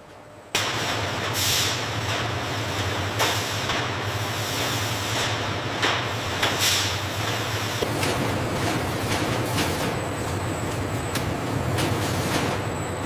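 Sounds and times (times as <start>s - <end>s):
factory machinery humming: 0.0s - 13.0s.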